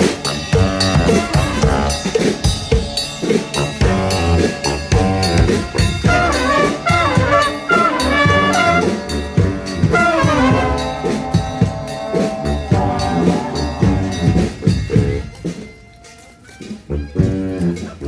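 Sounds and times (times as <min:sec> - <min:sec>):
steady drum beat: 0:00.0 - 0:16.0
brass band playing: 0:00.0 - 0:18.0.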